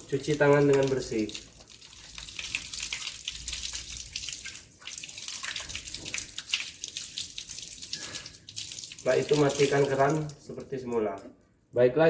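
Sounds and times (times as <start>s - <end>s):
tap water splashing into sink: 0.0s - 11.3s.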